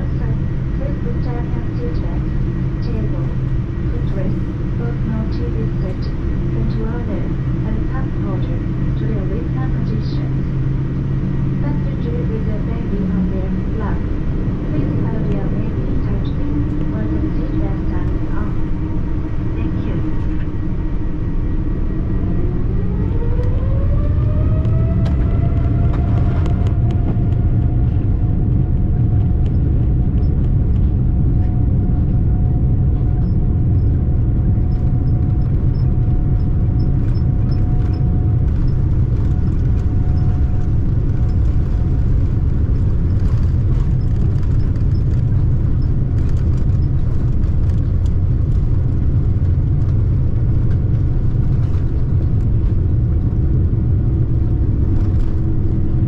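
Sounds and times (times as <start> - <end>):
engine rumble and rushing air: 0.0 - 56.0
engine whine: 0.0 - 56.0.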